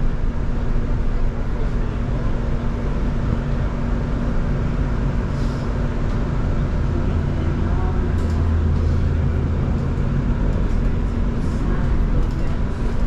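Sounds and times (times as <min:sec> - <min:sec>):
bus road rumble: 0:00.0 - 0:13.0.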